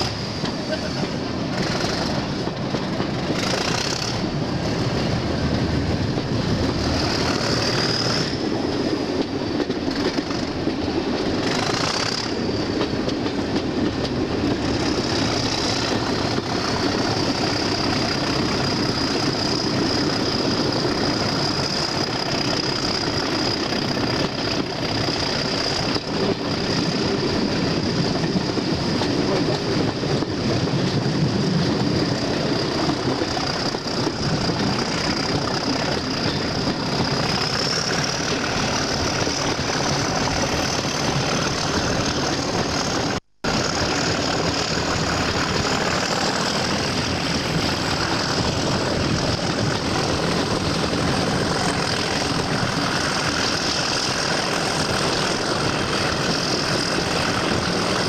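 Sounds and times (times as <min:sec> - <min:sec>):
diesel locomotive engine working hard: 0:00.0 - 0:58.0.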